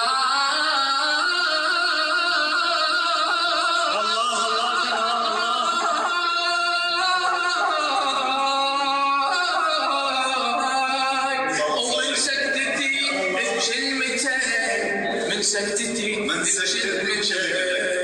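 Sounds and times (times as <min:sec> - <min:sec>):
man chanting: 0:00.0 - 0:18.0.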